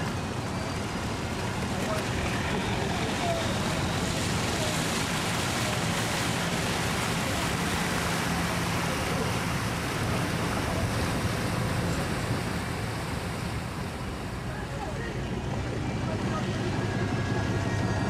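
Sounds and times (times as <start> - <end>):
boat engine humming: 0.0 - 18.0
water rushing along hull: 0.0 - 18.0.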